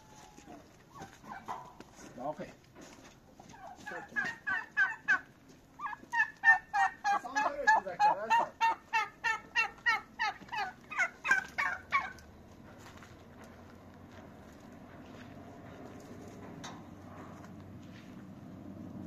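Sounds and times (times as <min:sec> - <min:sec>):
turkeys calling: 0:00.0 - 0:02.1, 0:02.7 - 0:17.7.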